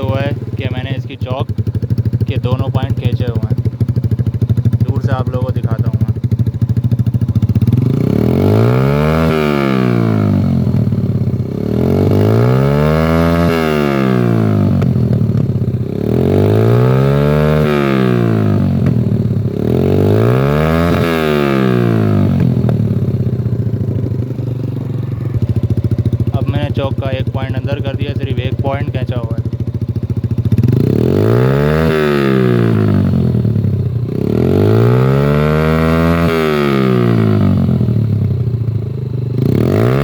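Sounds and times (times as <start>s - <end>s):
exhaust backfiring: 0.0s - 6.3s, 6.9s - 38.7s
motorcycle engine revving: 0.0s - 40.0s.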